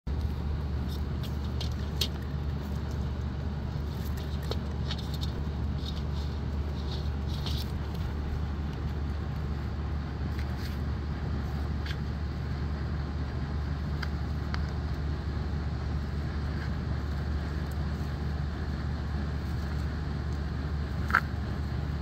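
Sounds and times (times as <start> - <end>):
low background rumble: 0.1 - 22.0
rustles: 0.1 - 22.0.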